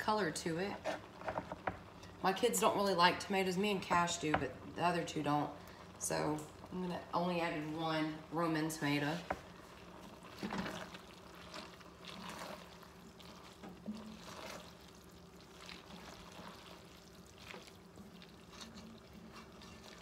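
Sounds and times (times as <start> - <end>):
low steady hum: 0.0 - 20.0
wooden spoon stirring in a pot: 0.1 - 2.3, 3.7 - 20.0.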